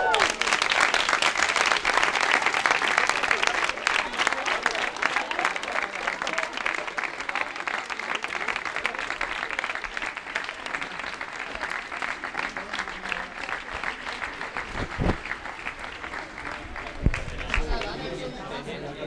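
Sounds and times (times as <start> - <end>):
crowd applauding: 0.0 - 18.4.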